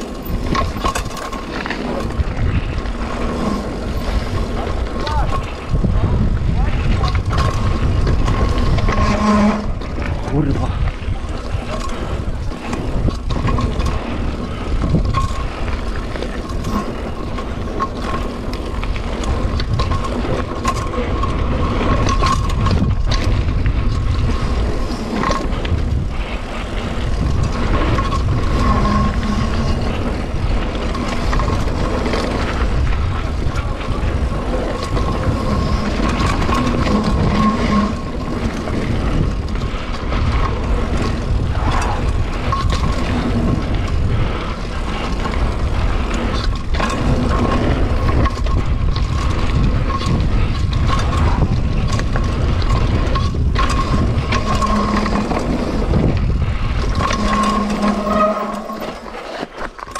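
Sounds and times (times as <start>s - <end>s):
bike rattling over bumps: 0.0s - 59.9s
tyre noise on gravel: 0.0s - 59.9s
wind noise on microphone: 0.0s - 59.9s.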